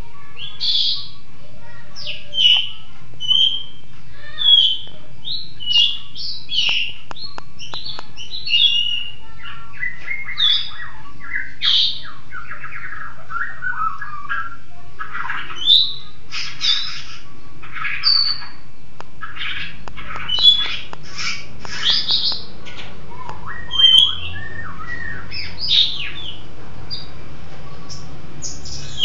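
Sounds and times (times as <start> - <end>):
bird chirping: 0.1 - 29.0.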